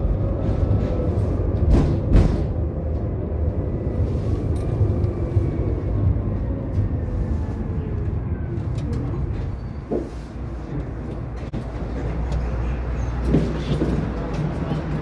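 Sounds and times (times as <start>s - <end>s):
tram rumbling on track: 0.0s - 15.0s.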